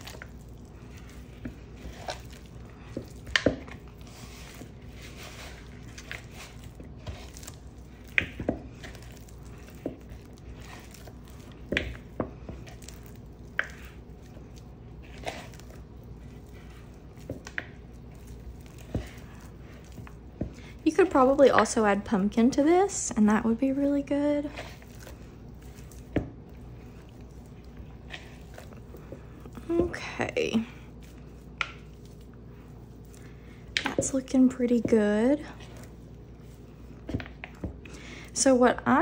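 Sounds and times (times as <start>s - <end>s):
hands kneading sticky dough: 0.0s - 39.0s.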